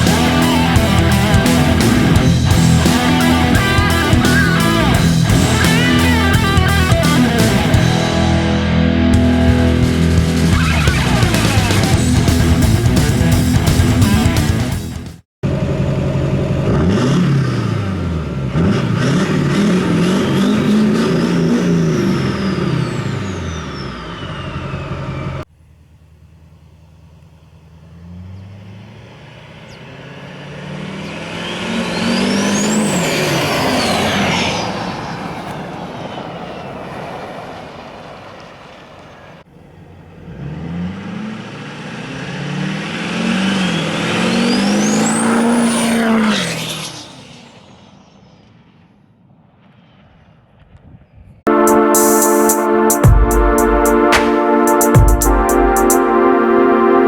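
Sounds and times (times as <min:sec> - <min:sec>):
diesel engine revving: 0:00.0 - 0:46.7.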